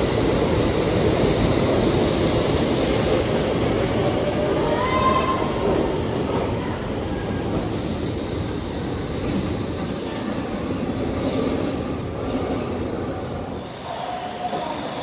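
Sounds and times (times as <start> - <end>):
metro train rumbling on rails: 0.0 - 15.0.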